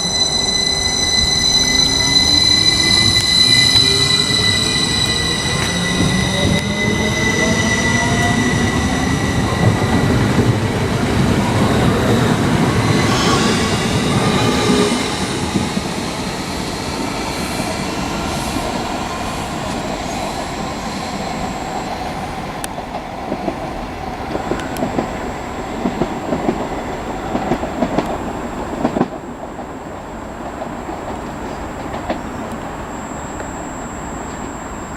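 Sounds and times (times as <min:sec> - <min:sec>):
train wheels rumbling on rails: 0:00.0 - 0:32.7.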